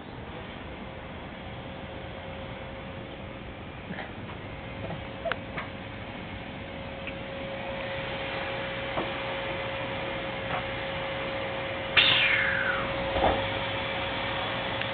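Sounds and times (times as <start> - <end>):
faint hum: 0.0 - 14.9.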